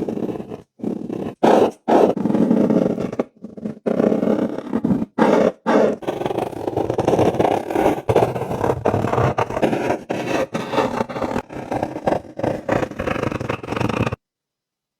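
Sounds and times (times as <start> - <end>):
marker scratching on paper: 0.0 - 14.2.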